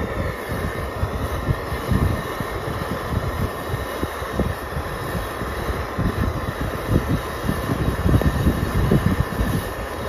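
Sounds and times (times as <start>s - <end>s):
camp stove burner running: 0.0s - 10.0s
wind gusting against microphone: 0.0s - 10.0s.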